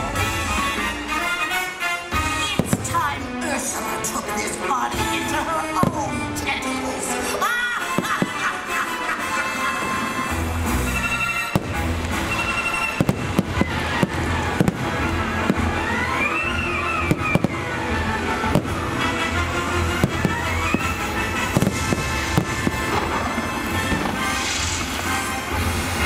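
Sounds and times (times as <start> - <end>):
fireworks bangs and cracks: 0.0 - 3.4, 4.5 - 26.0
loud music: 0.0 - 26.0.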